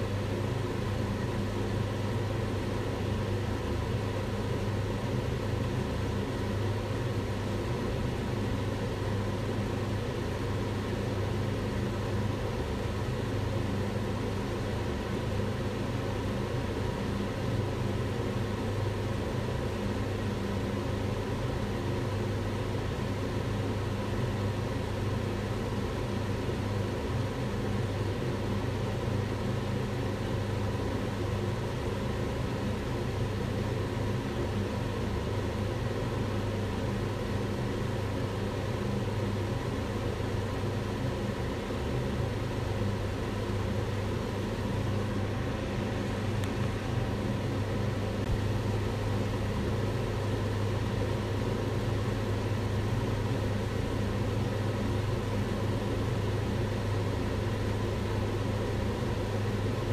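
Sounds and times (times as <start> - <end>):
range hood fan humming: 0.0 - 59.9.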